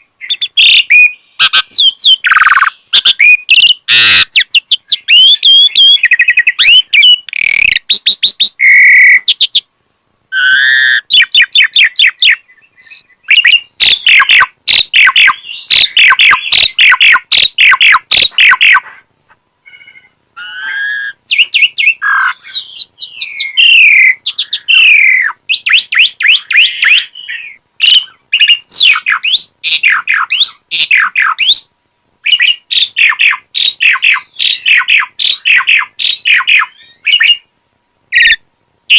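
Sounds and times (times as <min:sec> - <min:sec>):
starling singing: 0:00.0 - 0:09.7, 0:10.3 - 0:19.0, 0:19.6 - 0:37.5.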